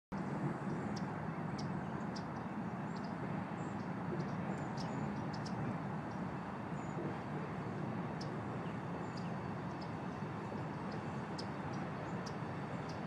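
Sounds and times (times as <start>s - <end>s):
low background rumble: 0.2s - 13.0s.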